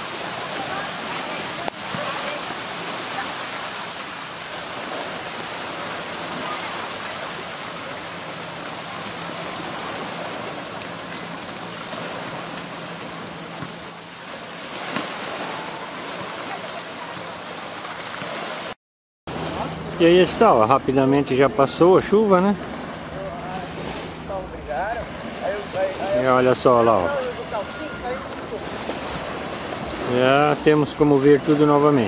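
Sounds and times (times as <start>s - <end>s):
steady water hiss: 0.0s - 18.8s, 19.6s - 32.0s.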